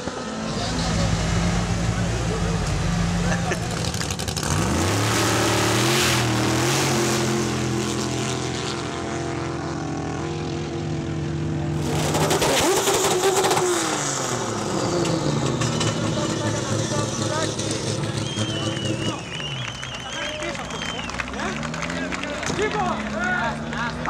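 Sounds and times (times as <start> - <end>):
drag car engine revving: 0.0 - 24.0
drag race car accelerating hard: 0.0 - 24.0.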